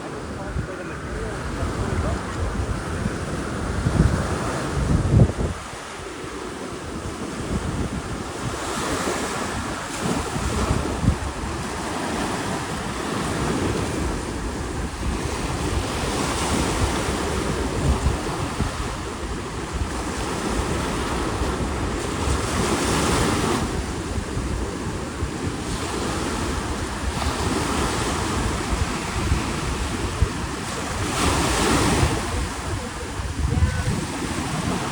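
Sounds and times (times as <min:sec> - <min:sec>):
ocean surf breaking: 0:00.0 - 0:34.9
wind buffeting microphone: 0:00.0 - 0:34.9.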